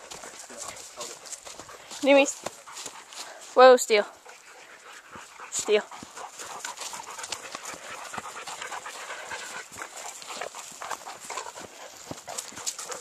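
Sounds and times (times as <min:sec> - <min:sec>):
dogs panting: 0:00.0 - 0:13.0
footsteps on grassy trail: 0:00.0 - 0:13.0.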